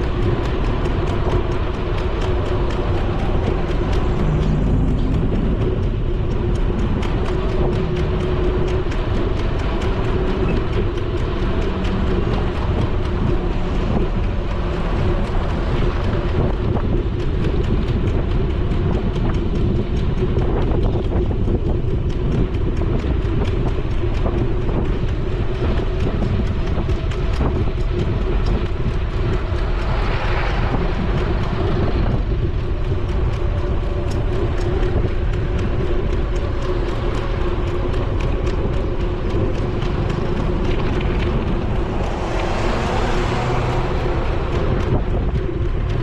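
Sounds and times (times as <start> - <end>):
cars passing close by: 0.0 - 46.0
road rumble from bicycle: 0.0 - 46.0
wind rushing over camera: 0.0 - 46.0.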